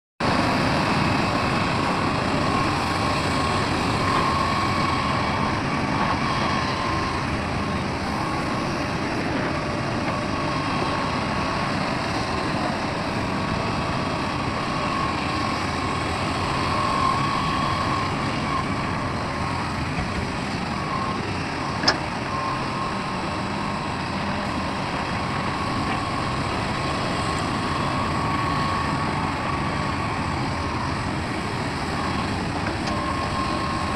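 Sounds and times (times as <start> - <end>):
heavy diesel machinery running: 0.2 - 33.9.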